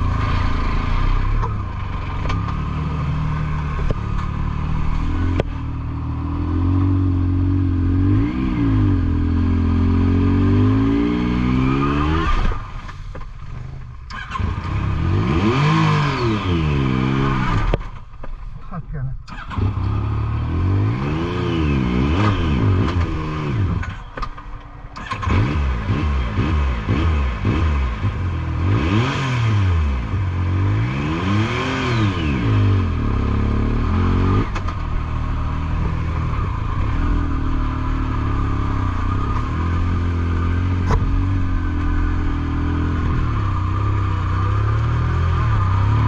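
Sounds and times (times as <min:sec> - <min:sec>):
engine revving up and down: 0:00.0 - 0:13.0, 0:14.1 - 0:17.8, 0:19.3 - 0:24.2, 0:25.0 - 0:46.0.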